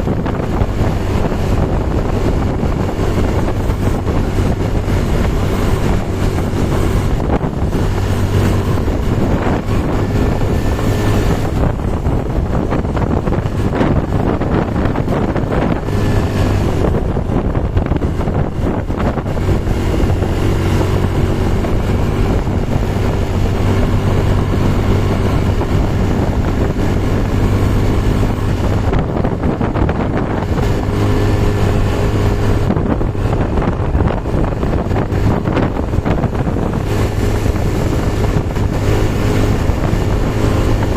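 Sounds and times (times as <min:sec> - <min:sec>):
engine running: 0:00.0 - 0:40.9
wind noise on microphone: 0:00.0 - 0:40.9.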